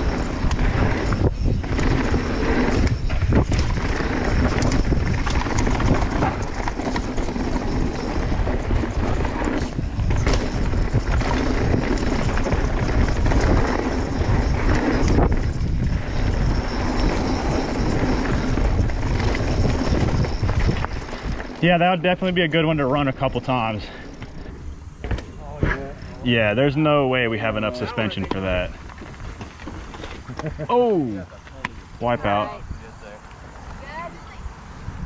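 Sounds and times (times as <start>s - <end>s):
bike rattling over rock: 0.0s - 30.7s
wind buffeting microphone: 0.0s - 31.1s, 31.7s - 35.0s.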